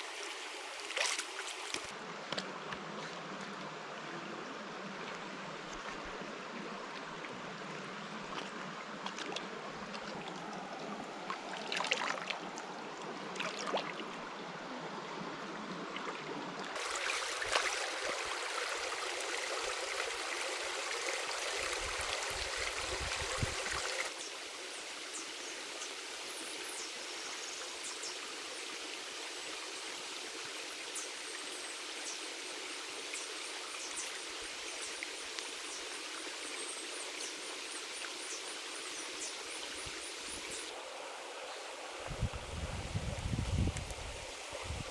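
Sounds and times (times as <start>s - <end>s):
stream water rushing: 0.0s - 24.9s, 32.0s - 44.9s.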